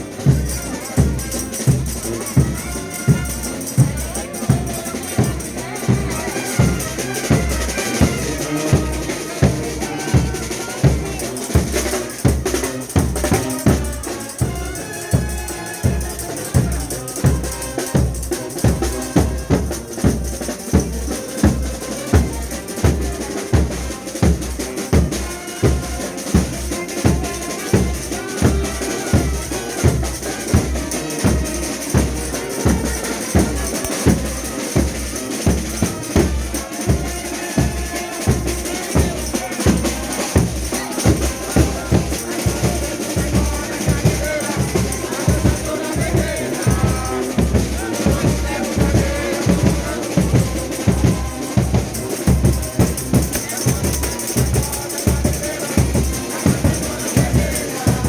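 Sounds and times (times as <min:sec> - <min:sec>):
bass drum and snare beat: 0:00.0 - 0:58.0
brass melody: 0:00.0 - 0:58.0.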